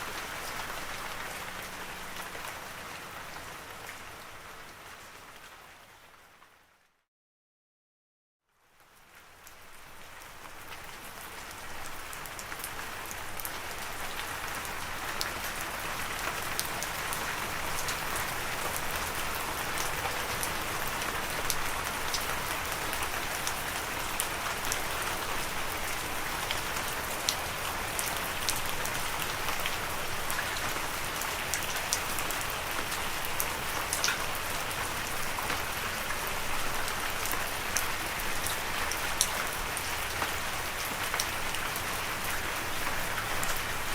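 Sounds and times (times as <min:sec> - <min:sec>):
steady rain falling: 0:00.0 - 0:07.0, 0:08.5 - 0:43.9.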